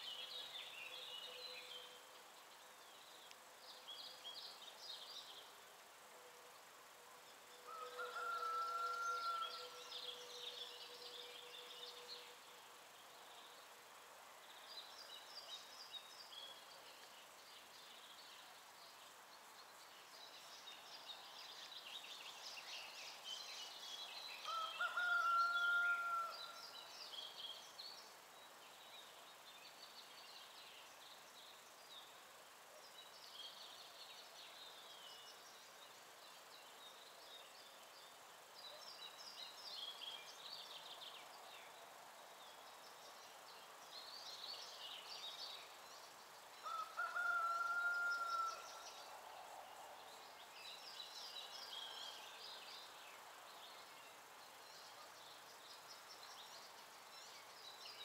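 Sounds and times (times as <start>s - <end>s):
songbirds singing: 0.0s - 5.9s, 6.6s - 58.0s
faint steady hiss: 0.0s - 58.0s.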